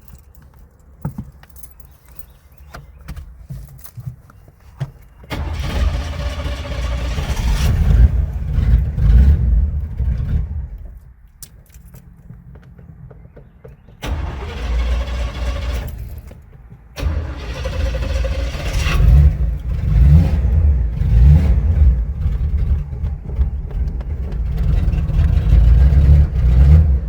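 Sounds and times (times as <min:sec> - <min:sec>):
car engine cranking and sputtering: 0:05.0 - 0:27.0.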